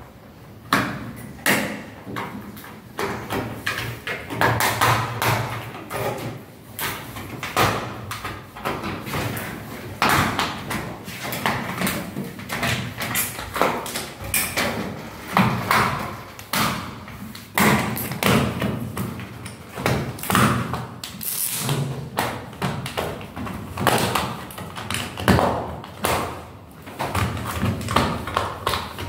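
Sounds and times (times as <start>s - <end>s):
knocks and thumps against ceiling: 0.6s - 29.0s.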